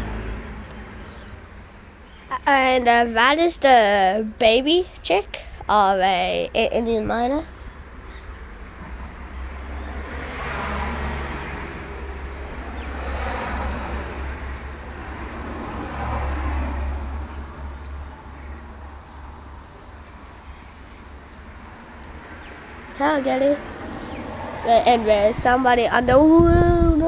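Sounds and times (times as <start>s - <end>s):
low traffic rumble: 0.0s - 27.0s
vehicles passing: 0.0s - 27.0s.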